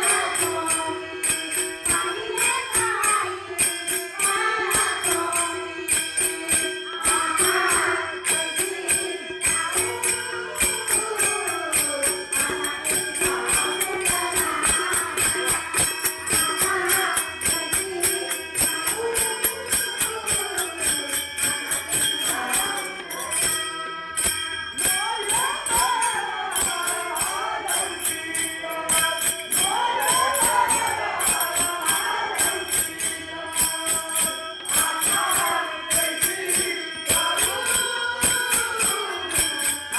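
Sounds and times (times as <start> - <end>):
jingling metal percussion: 0.0 - 39.9
women singing devotional song: 0.0 - 39.9.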